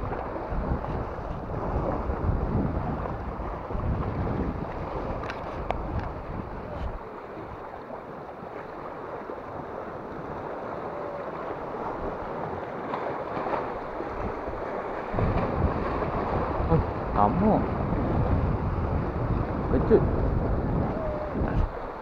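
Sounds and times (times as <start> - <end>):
small waves breaking on rocks: 0.0 - 22.0
wind buffeting microphone: 0.0 - 22.0.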